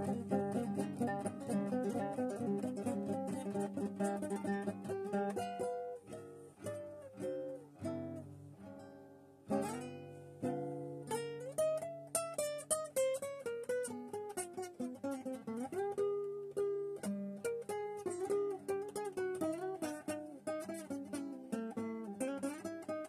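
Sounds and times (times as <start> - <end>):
acoustic guitar rag: 0.0 - 23.0.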